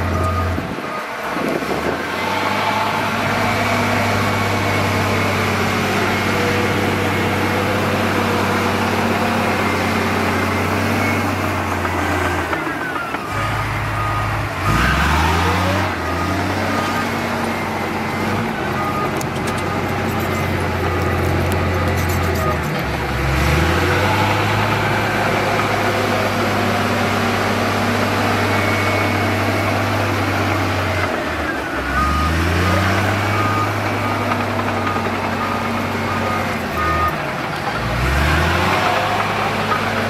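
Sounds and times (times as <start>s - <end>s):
engine revving: 0.0s - 40.0s
heavy diesel machinery running: 0.0s - 40.0s.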